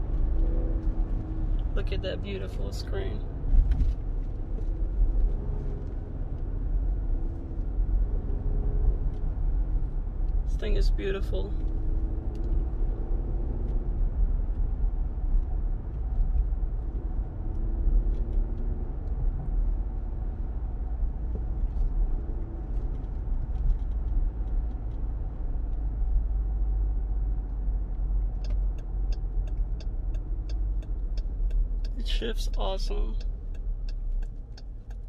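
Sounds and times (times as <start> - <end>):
car engine humming: 0.0 - 35.0
road and tyre noise: 0.0 - 35.0.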